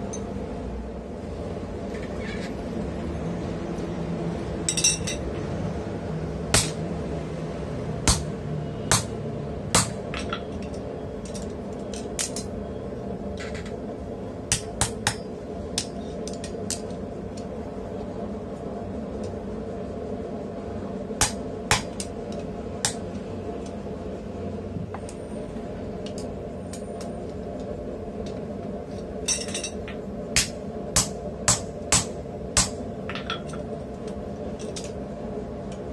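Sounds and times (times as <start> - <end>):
steady background noise: 0.0 - 35.9.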